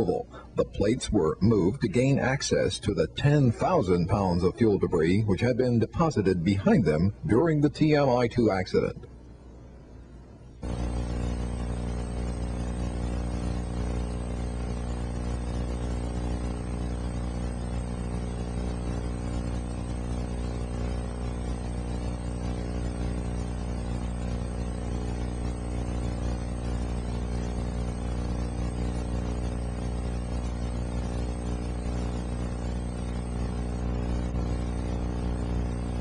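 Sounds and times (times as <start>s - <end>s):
steady machinery hum: 0.0s - 36.0s.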